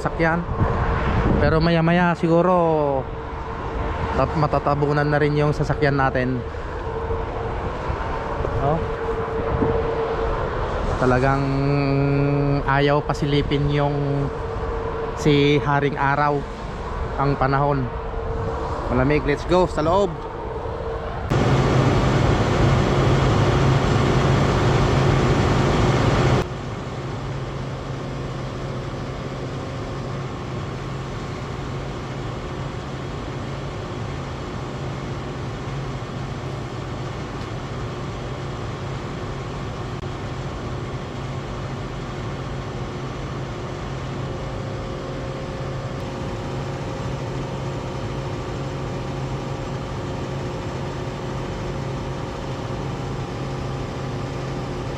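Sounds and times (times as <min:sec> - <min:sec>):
vehicle engine humming: 0:00.0 - 0:54.9.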